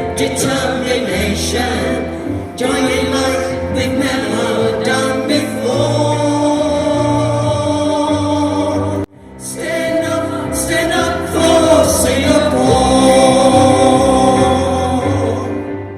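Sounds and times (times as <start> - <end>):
backing music: 0.0 - 15.9
group of voices singing: 0.0 - 15.9.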